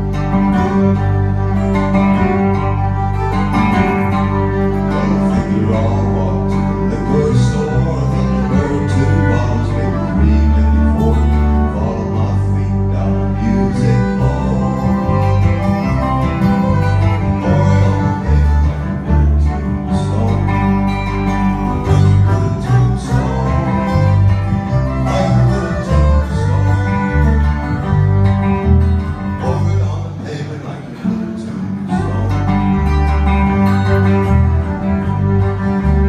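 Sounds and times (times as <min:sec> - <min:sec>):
slide guitar gliding lines: 0:00.0 - 0:36.0
strummed acoustic guitar: 0:00.0 - 0:36.0.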